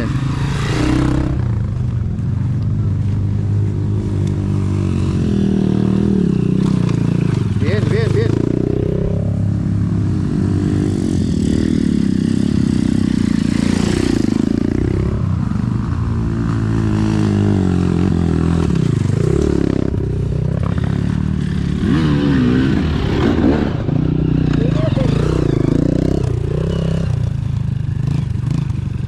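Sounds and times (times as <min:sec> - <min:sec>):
dirt bike engine revving: 0:00.0 - 0:01.8, 0:03.6 - 0:15.3, 0:16.3 - 0:28.8.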